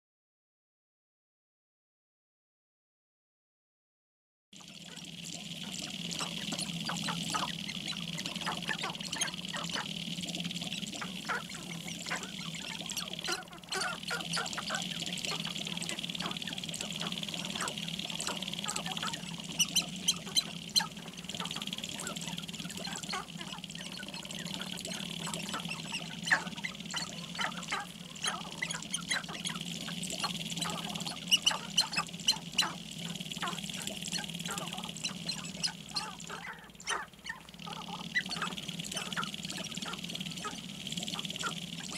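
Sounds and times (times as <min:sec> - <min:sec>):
grouse clucking and cackling: 0:04.6 - 0:41.9.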